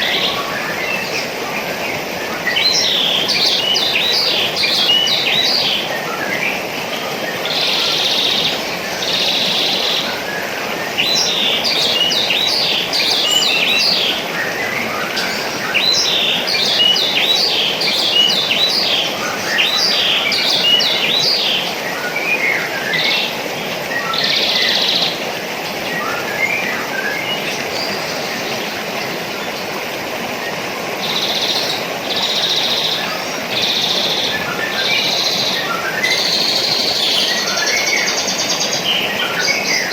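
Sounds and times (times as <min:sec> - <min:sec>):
buzzy bird calls: 0:00.0 - 0:39.9
small birds chirping: 0:00.0 - 0:39.9
steady background hiss: 0:00.0 - 0:39.9.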